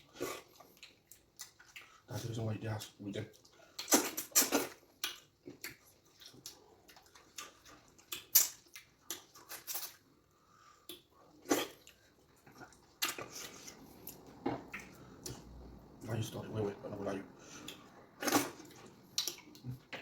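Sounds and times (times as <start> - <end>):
wet eating slurps and smacks: 0.0 - 2.2, 2.8 - 15.6, 17.6 - 20.0.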